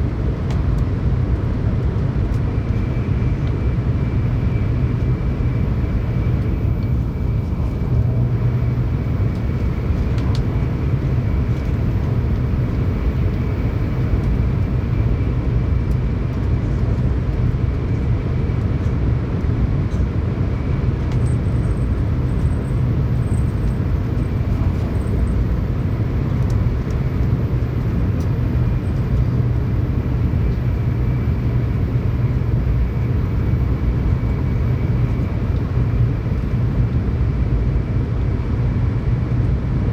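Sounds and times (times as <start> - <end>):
train rumble and rush: 0.0 - 39.9.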